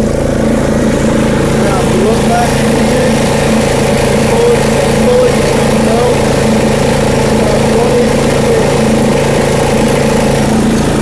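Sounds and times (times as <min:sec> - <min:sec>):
riding mower engine running: 0:00.0 - 0:11.0.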